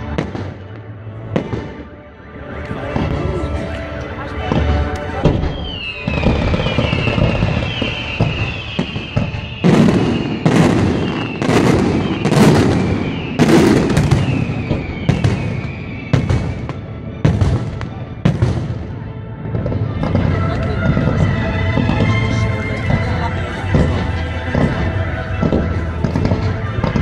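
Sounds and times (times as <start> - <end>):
firework whistle: 4.4 - 27.0.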